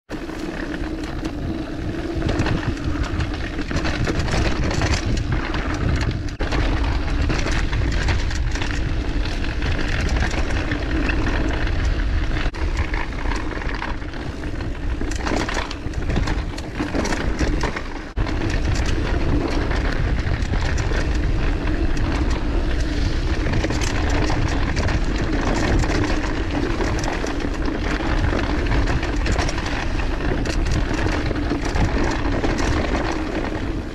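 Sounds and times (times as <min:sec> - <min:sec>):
bike rattling over bumps: 0:00.1 - 0:33.9
bike tyres rolling over dirt: 0:00.1 - 0:33.9.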